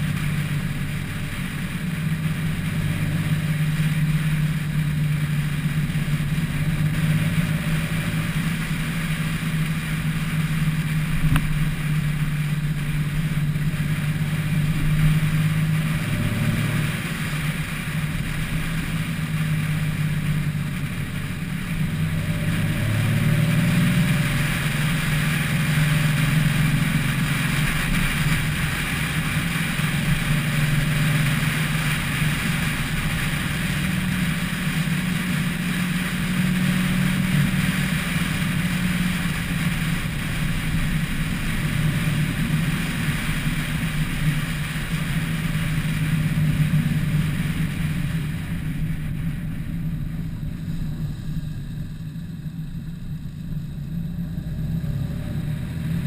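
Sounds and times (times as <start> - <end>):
car engine drone: 0.0 - 56.0
road noise: 0.0 - 56.0
wind noise: 0.0 - 56.0.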